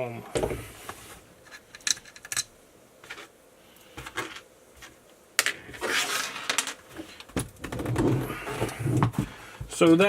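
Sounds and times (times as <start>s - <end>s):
rustling and scraping: 0.3s - 2.4s, 3.0s - 10.0s.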